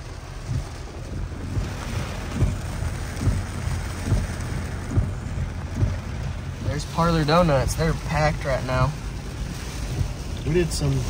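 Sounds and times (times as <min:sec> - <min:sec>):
low road rumble: 0:00.0 - 0:11.0
rain hissing on a car: 0:00.0 - 0:11.0.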